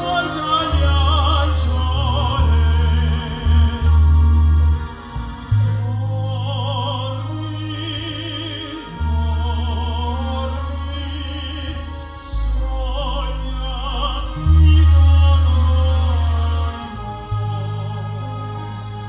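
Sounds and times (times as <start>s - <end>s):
operatic singing with vibrato: 0.0s - 19.0s
sustained low accompaniment: 0.0s - 19.0s.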